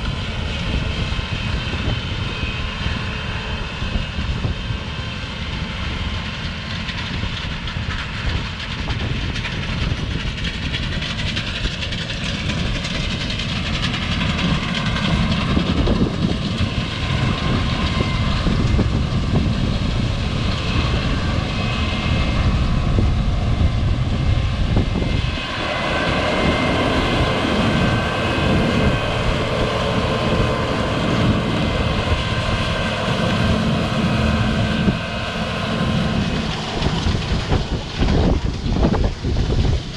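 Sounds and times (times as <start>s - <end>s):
wind noise: 0.0s - 39.9s
heavy machinery engines running: 5.8s - 39.9s.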